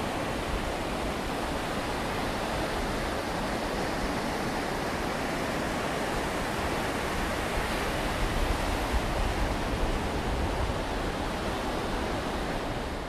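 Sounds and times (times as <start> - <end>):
sea surf breaking on shore: 0.0 - 13.0.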